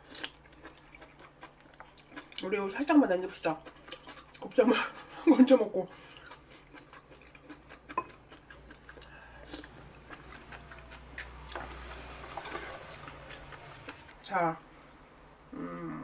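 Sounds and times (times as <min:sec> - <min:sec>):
person chewing: 0:00.0 - 0:05.2, 0:05.9 - 0:14.2.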